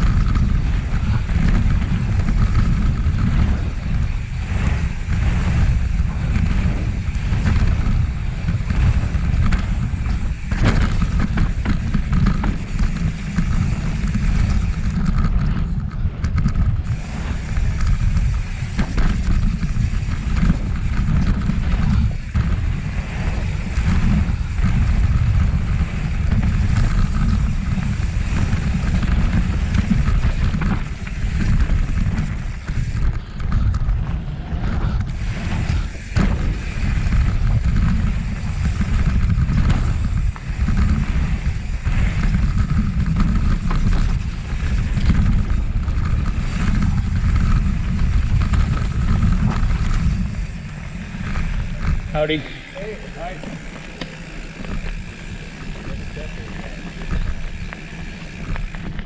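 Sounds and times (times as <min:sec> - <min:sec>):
bike knocks and rattles: 0:00.0 - 0:59.0
tyres rolling over dirt: 0:00.0 - 0:59.0
wind buffeting microphone: 0:00.0 - 0:59.0.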